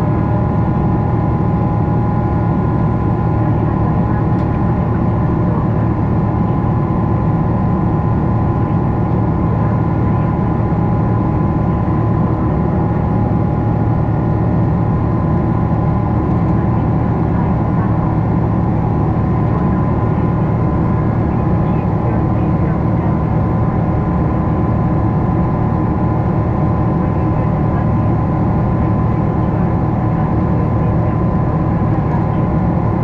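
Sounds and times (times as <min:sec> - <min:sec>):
high engine whine: 0:00.0 - 0:33.0
jet engine roar in cabin: 0:00.0 - 0:33.0.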